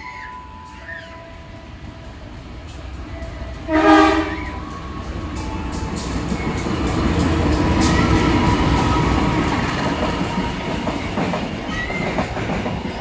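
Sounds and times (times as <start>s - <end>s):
freight train rumbling past: 0.0s - 13.0s
wheels clacking over rail joints: 0.7s - 13.0s.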